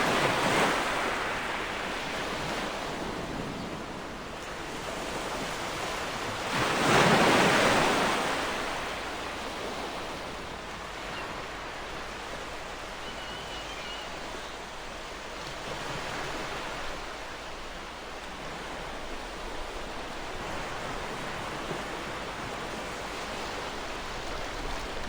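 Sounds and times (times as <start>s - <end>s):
ocean waves breaking on shore: 0.0s - 25.0s.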